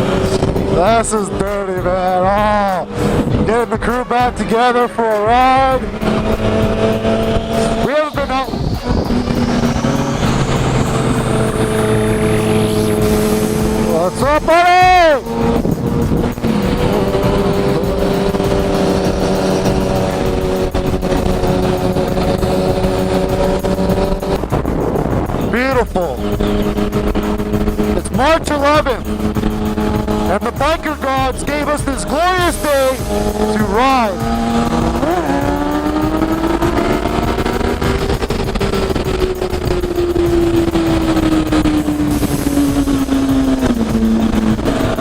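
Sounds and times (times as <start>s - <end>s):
motorcycle engine running: 0.0s - 45.0s
road and wind noise: 0.0s - 45.0s.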